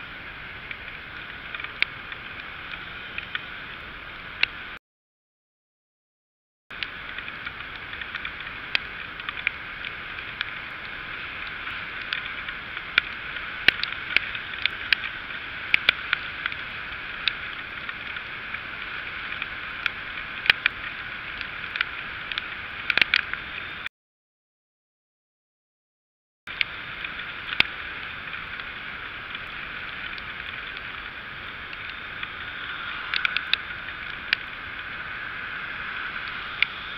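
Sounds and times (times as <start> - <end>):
raindrops ticking on microphone: 0.0 - 4.8, 6.7 - 23.9, 26.5 - 36.9
wind and rain hiss: 0.0 - 4.8, 6.7 - 23.9, 26.5 - 36.9.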